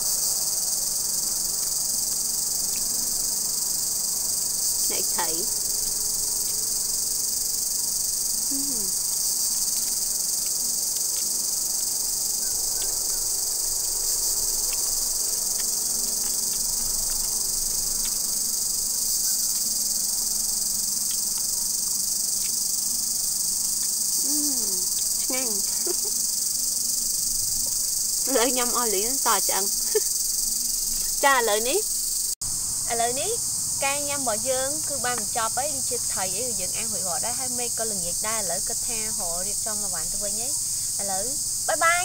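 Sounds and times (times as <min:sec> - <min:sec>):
insect chorus: 0:00.0 - 0:42.0.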